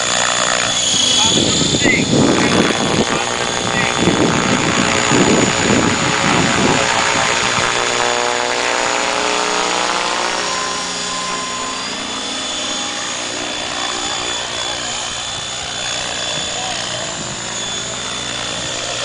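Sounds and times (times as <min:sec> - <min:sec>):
model helicopter buzzing whine: 0:00.0 - 0:19.0.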